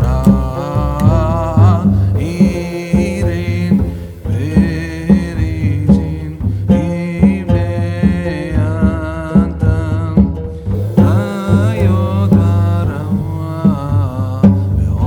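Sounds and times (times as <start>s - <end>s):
hand-drum beat: 0.0s - 15.0s
person singing: 0.0s - 15.0s.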